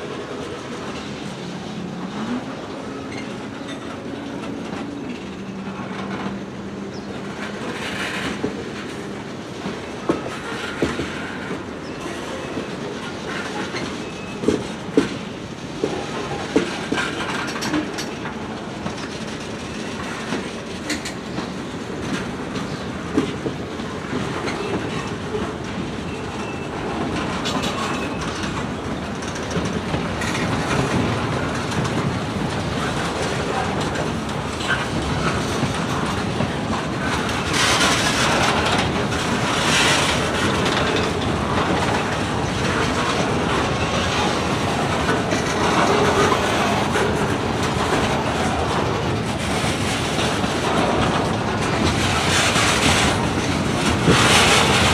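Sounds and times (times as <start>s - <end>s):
freight train wheels clacking: 0.0s - 54.9s.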